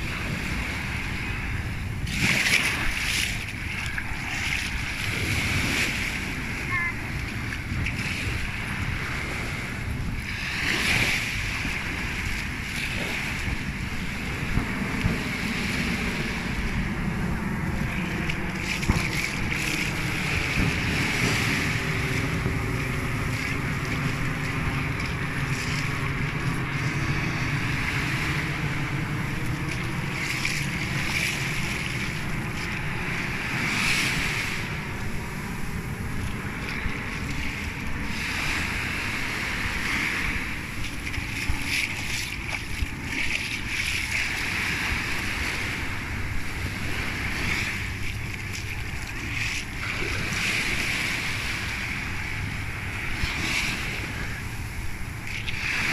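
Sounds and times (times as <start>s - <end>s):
small waves washing on sand: 0.0s - 55.9s
steady low rumble: 0.0s - 55.9s.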